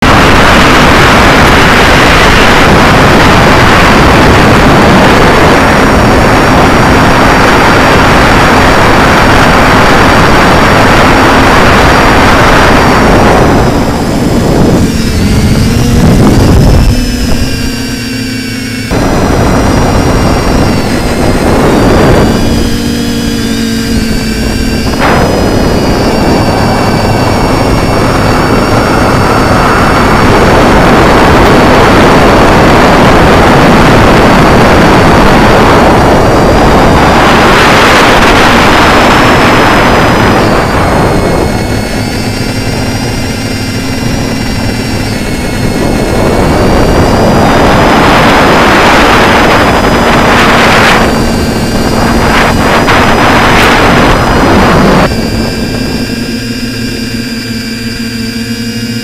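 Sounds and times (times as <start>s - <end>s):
quadcopter motors whining: 0.0s - 59.0s
wind rush: 0.0s - 59.0s.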